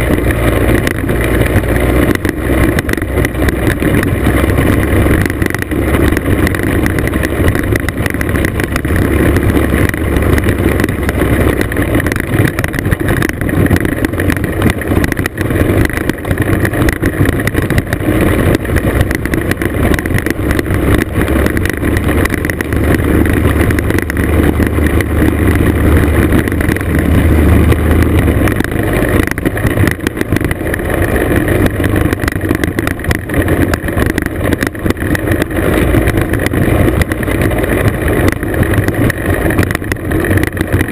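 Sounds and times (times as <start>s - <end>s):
two-stroke scooter engine: 0.0s - 40.9s
tyres on loose gravel: 0.0s - 40.9s.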